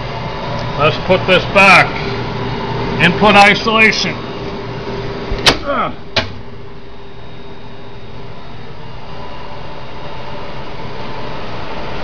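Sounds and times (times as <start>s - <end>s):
equipment fan and hum: 0.0s - 12.0s.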